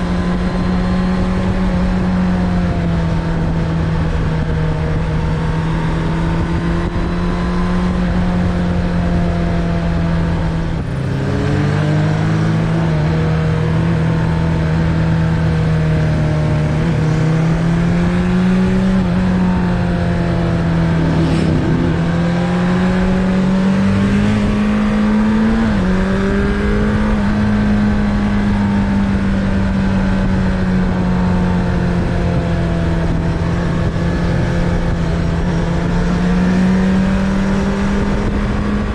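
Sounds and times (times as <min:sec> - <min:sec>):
low wind rumble: 0:00.0 - 0:38.9
motorcycle engine running: 0:00.0 - 0:38.9.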